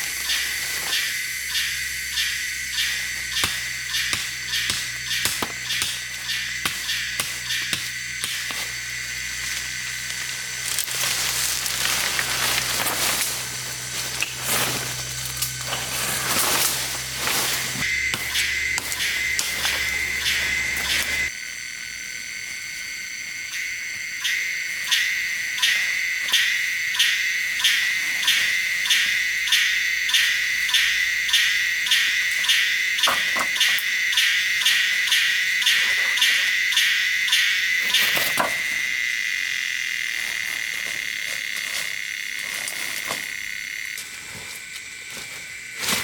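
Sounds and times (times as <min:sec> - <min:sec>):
insects chirping: 0:00.0 - 0:46.0.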